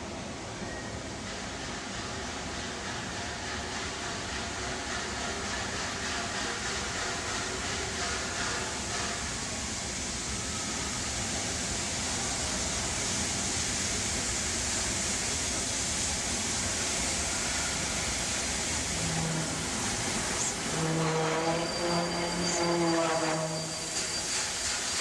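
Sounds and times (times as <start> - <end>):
steam locomotive passing: 0.0 - 25.0.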